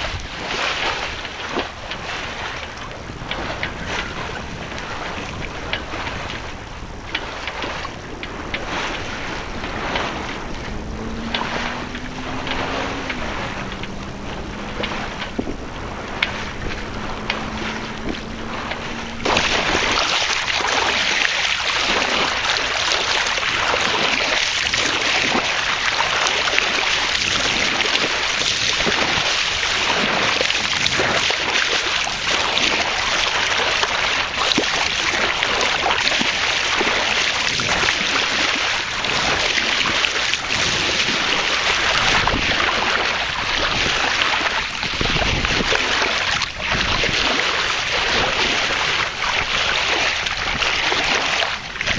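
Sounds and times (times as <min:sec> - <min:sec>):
water rushing along boat hull: 0:00.0 - 0:51.9.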